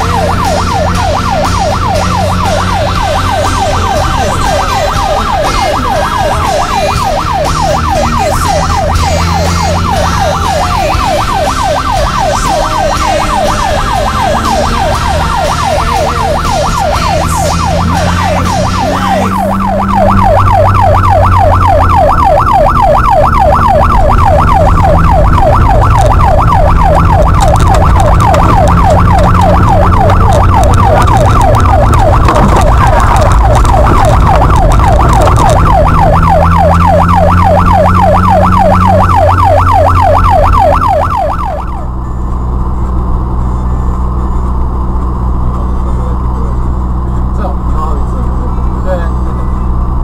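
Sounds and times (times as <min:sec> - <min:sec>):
siren yelping: 0:00.0 - 0:47.7
car engine running: 0:00.0 - 0:50.0.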